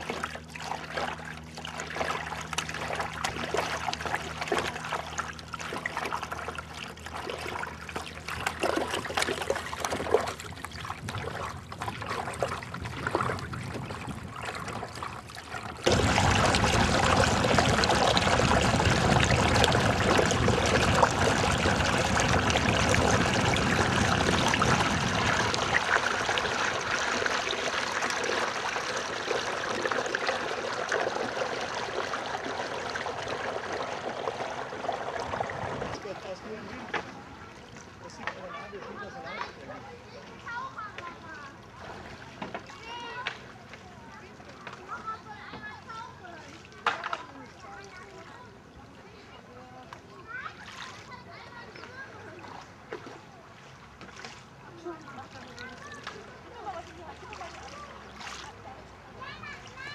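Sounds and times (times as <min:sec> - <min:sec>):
water trickling along a hull: 0:00.0 - 0:59.9.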